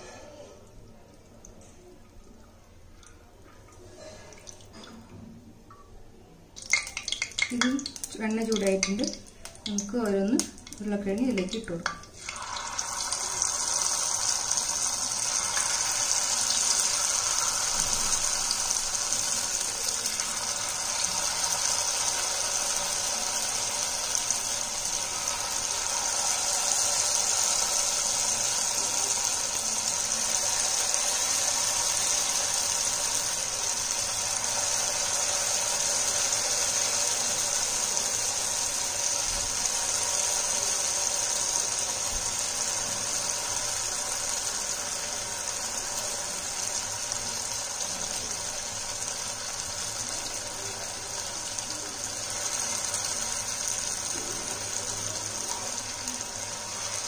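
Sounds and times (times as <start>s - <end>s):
potatoes deep-frying in oil: 6.5s - 57.0s.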